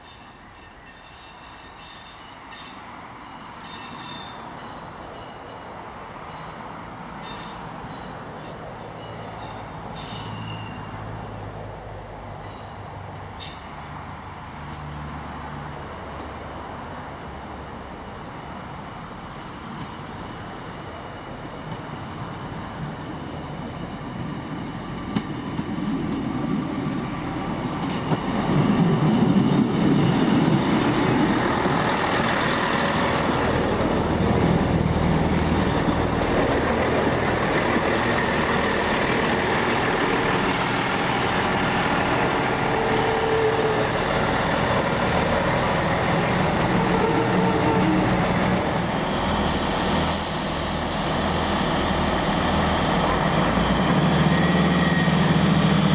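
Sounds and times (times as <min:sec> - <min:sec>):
train running with low drone: 0:00.0 - 0:55.9.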